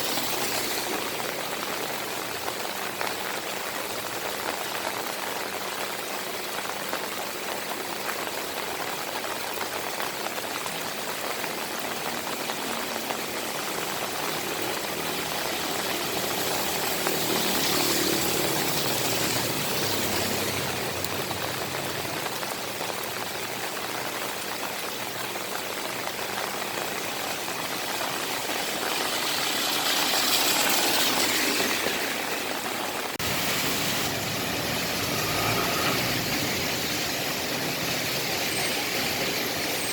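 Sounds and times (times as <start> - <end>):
steady rain falling: 0.0 - 39.9
vehicles passing on wet street: 0.0 - 39.9.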